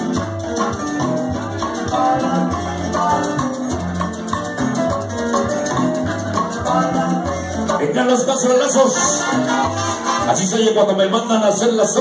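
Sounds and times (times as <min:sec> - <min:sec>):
salsa music over sound system: 0:00.0 - 0:12.0.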